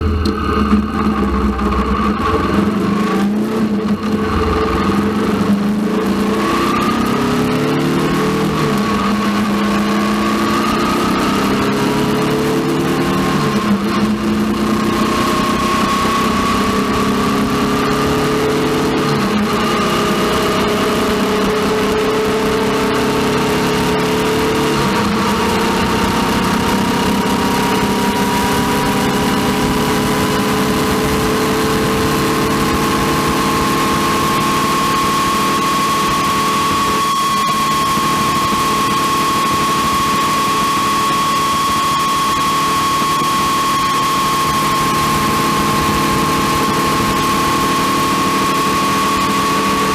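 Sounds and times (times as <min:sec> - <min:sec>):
motorcycle engine running: 0:00.0 - 0:49.9
steady whine rising in pitch: 0:00.0 - 0:49.9.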